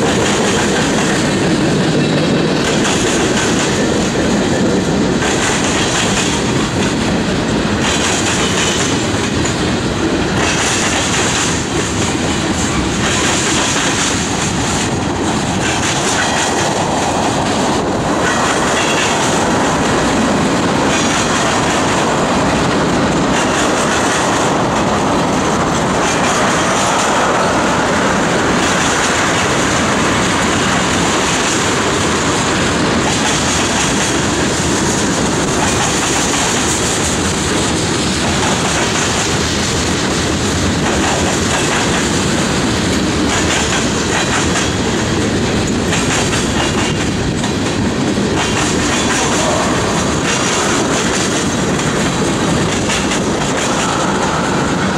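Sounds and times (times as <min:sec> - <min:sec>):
clickety-clack of rail joints: 0:00.0 - 0:54.9
freight train wheels rumbling: 0:00.0 - 0:54.9.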